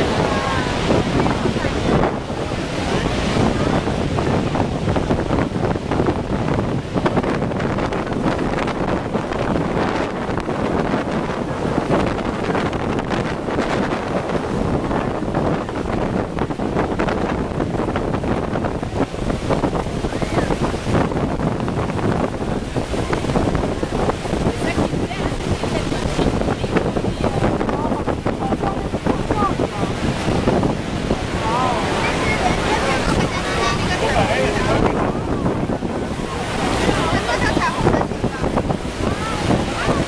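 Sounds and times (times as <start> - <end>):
river water rushing: 0.0 - 40.0
waterfall roaring onto rocks: 0.0 - 40.0
wind buffeting microphone: 0.0 - 40.0.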